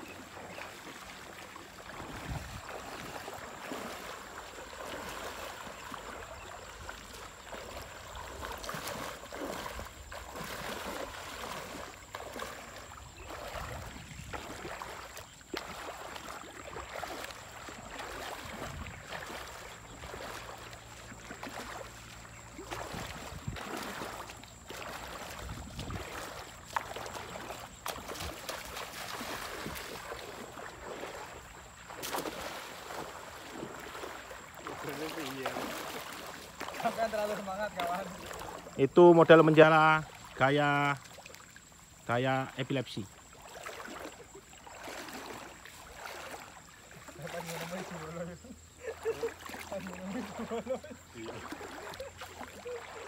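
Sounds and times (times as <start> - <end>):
rushing river water: 0.0 - 53.0
water splashing around legs: 0.0 - 53.0.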